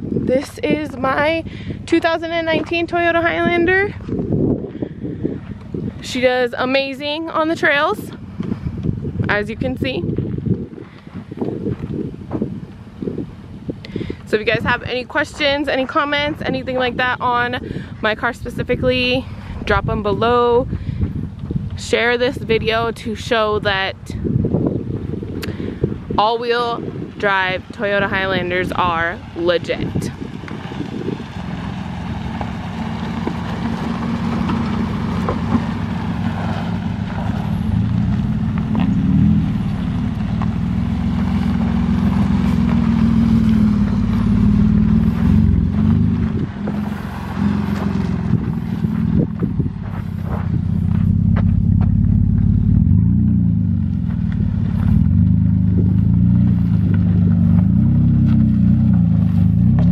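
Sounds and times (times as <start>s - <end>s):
car engine and exhaust: 0.0s - 59.9s.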